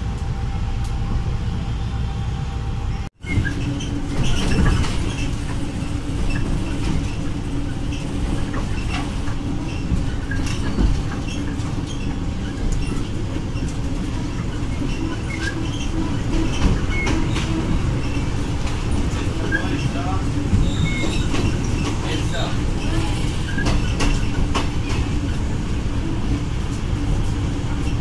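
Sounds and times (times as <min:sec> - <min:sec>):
train carriage rumbling on track: 0:00.0 - 0:28.0.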